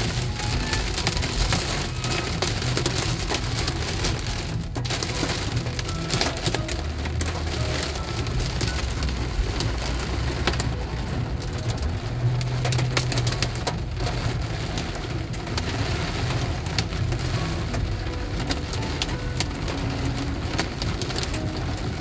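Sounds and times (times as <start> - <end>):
heavy rain on car roof: 0.0 - 22.0
low car rumble: 0.0 - 22.0.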